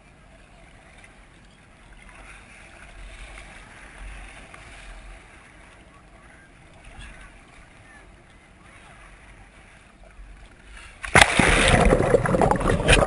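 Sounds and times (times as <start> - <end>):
paddle splashing through water: 1.8 - 13.0.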